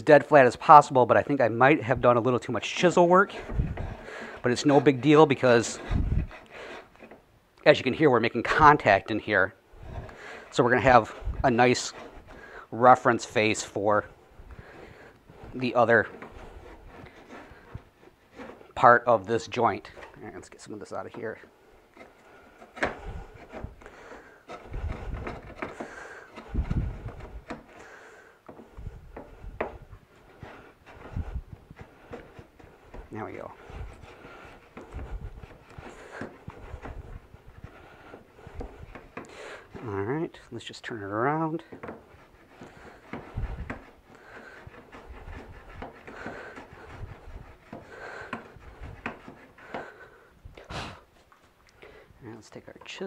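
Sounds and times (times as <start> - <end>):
plane cutter scraping wood: 0.1 - 51.6.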